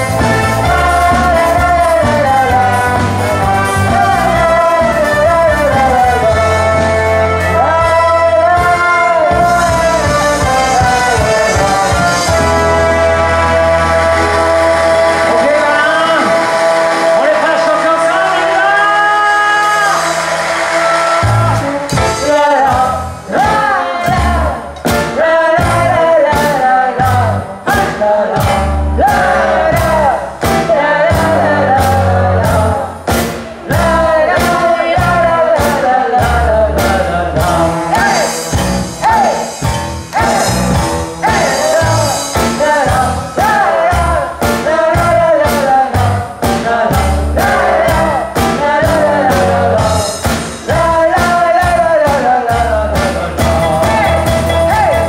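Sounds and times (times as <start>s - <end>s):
drums and bass beat: 0.0s - 55.0s
live band playing: 0.0s - 55.0s
person singing: 0.0s - 55.0s.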